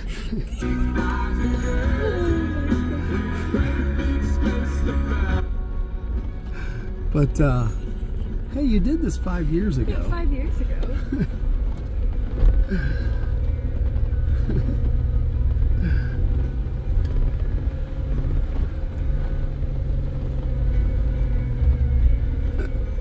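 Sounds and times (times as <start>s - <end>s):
engine low rumble: 0.0s - 23.0s.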